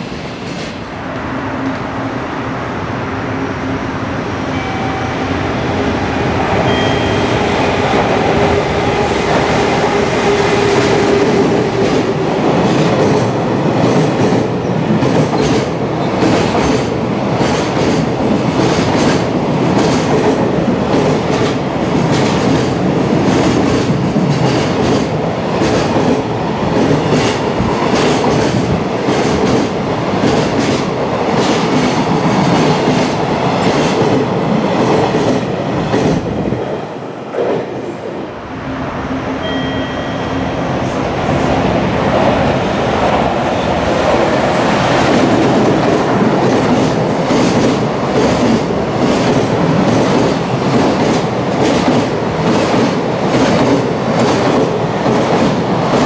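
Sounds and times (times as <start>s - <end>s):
train wheels rumbling on rail: 5.4s - 56.0s.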